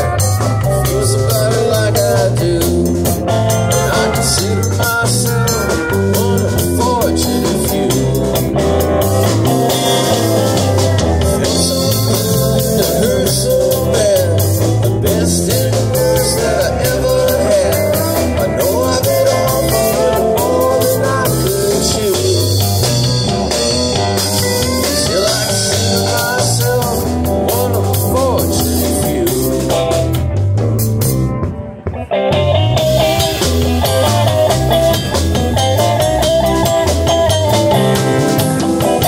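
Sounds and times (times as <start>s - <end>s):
steel guitar sliding lead: 0.0s - 30.4s, 31.3s - 39.0s
drum kit: 0.0s - 39.0s
electric guitar: 0.0s - 39.0s.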